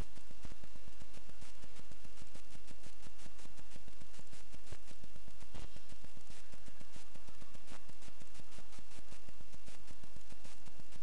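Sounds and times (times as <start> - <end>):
fast irregular crackling clicks: 0.0 - 11.0
recording hiss and hum: 0.0 - 11.0.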